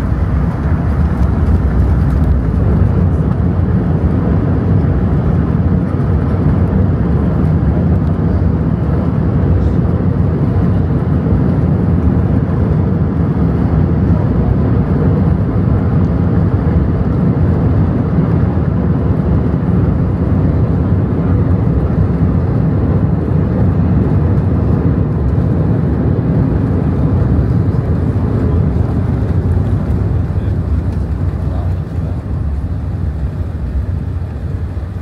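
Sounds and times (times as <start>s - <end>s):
aircraft cabin rumble: 0.0s - 35.0s.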